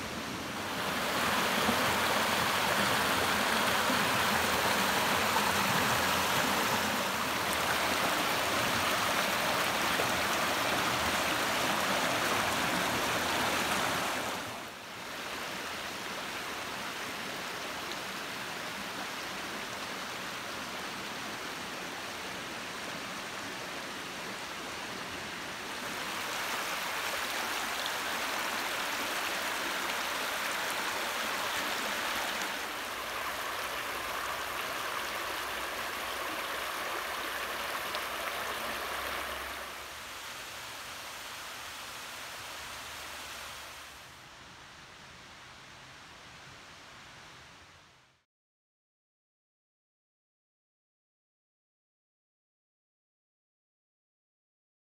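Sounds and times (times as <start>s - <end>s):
stream rushing over stones: 0.0s - 44.0s.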